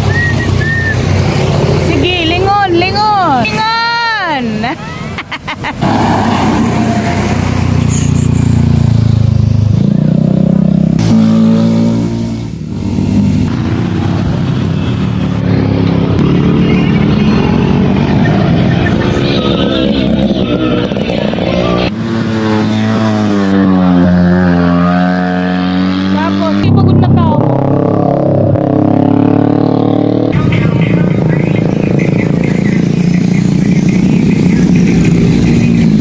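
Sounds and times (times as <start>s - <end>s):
motorcycles and scooters passing: 0.0s - 36.0s.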